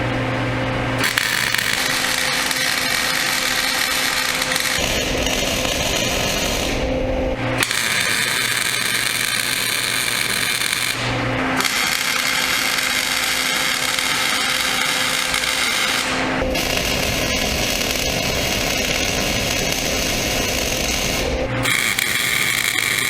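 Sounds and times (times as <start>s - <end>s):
steady hum: 0.0s - 23.0s
welding arc crackling: 0.7s - 23.0s.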